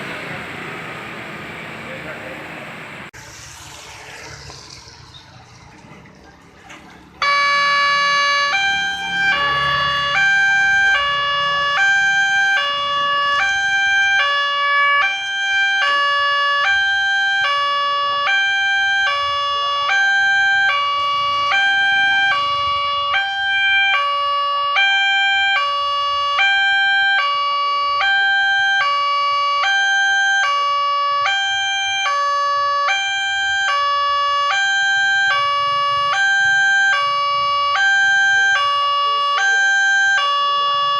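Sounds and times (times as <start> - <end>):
two-tone level crossing siren: 7.2 - 40.9.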